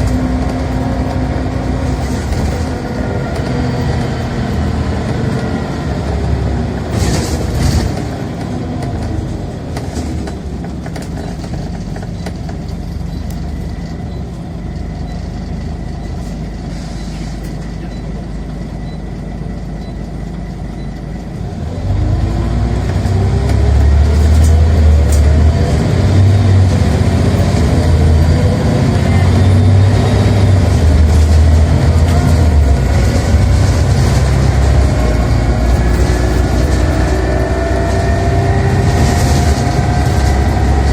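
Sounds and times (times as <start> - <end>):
bus diesel engine accelerating: 0.0 - 40.9.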